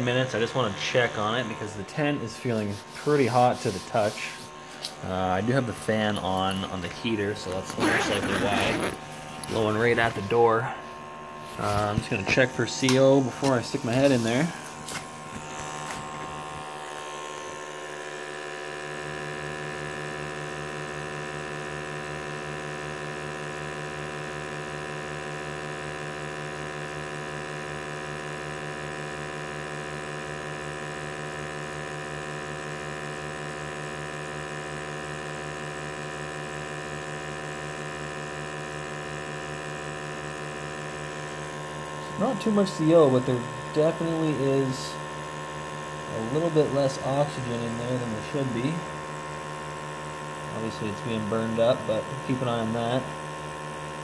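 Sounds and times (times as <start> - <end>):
sampling pump humming with low pulse: 0.0 - 54.0.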